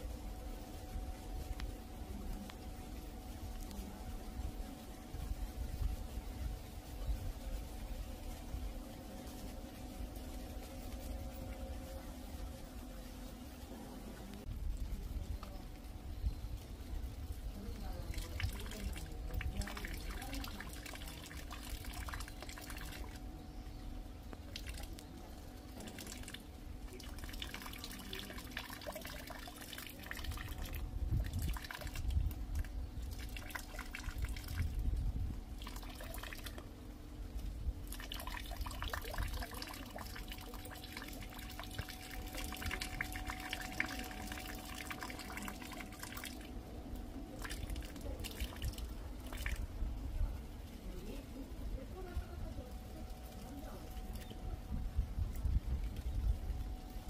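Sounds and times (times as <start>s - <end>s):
rain dripping and pattering: 0.0s - 57.0s
rainwater trickling: 0.0s - 57.0s.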